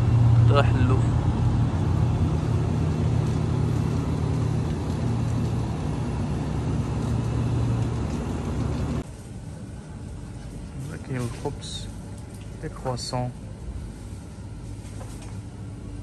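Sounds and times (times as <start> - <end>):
refrigerated shelves humming: 0.0 - 16.0.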